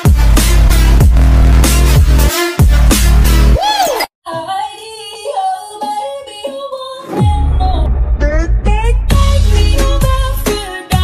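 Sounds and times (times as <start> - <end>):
pop song with heavy bass beat: 0.0 - 11.0.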